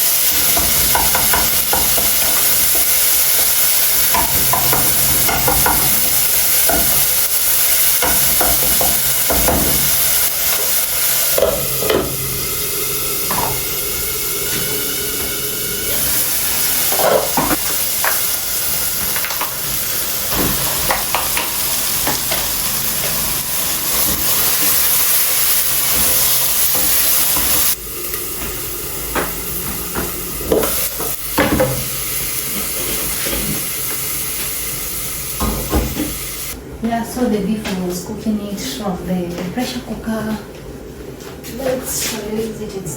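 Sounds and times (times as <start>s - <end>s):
food sizzling in a pan: 0.0s - 36.6s.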